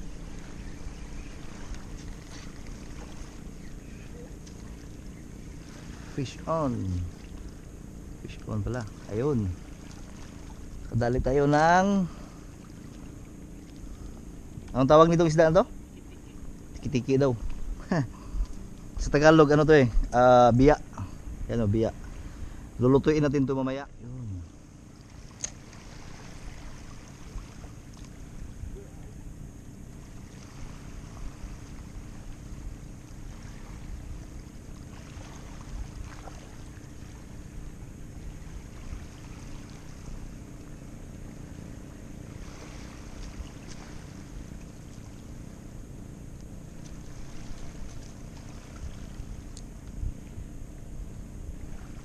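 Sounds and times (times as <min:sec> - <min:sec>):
small waves lapping rocky shore: 0:00.0 - 0:19.9, 0:24.4 - 0:28.6, 0:29.8 - 0:45.8, 0:46.6 - 0:50.4, 0:51.5 - 0:52.0.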